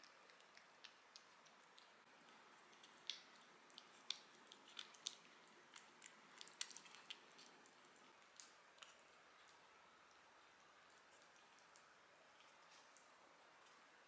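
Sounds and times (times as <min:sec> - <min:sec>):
kitten licking and chewing: 0:00.0 - 0:14.0.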